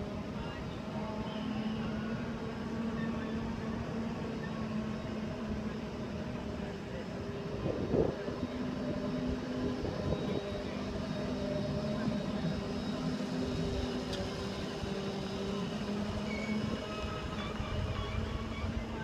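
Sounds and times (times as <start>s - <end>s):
tram car humming: 0.0s - 19.0s.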